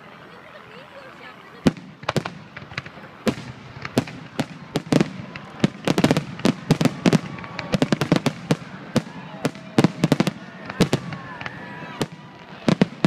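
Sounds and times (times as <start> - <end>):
fireworks bursting with sharp bangs: 1.5 - 13.0.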